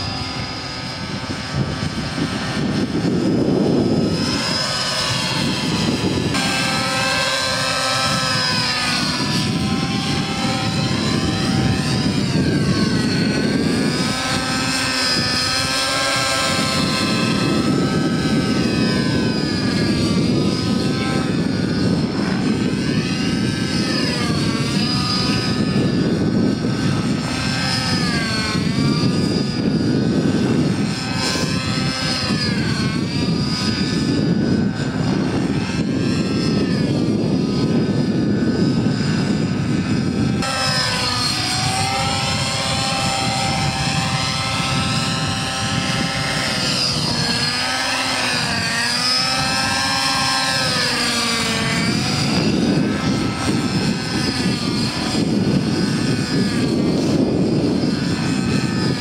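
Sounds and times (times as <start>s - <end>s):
helicopter motor whine: 0.0s - 59.0s.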